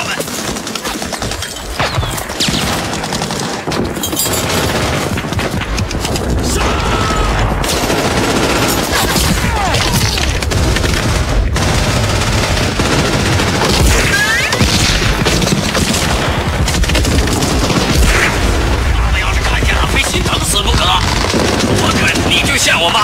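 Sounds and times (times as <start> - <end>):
rifle and machine-gun fire: 0.0 - 23.0.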